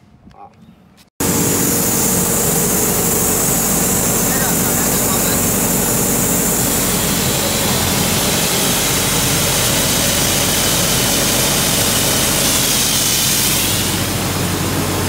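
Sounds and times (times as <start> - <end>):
air compressor engine drone: 1.2 - 15.0
loud hiss of air: 1.2 - 15.0.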